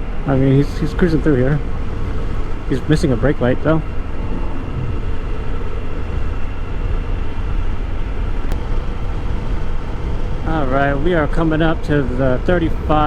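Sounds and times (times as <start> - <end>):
motorcycle engine drone: 0.0 - 13.0.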